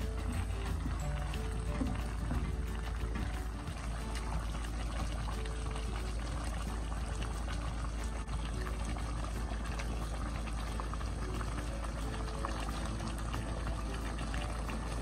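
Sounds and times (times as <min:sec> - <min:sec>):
liquid bubbling in a pot: 0:00.0 - 0:15.0
soft background music: 0:00.0 - 0:15.0.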